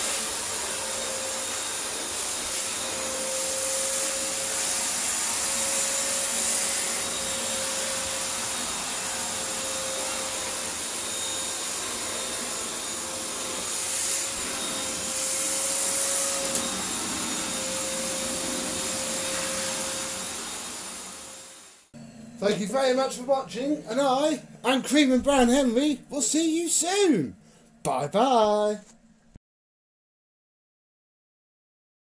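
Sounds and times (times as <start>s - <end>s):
vacuum cleaner motor running: 0.0s - 26.2s.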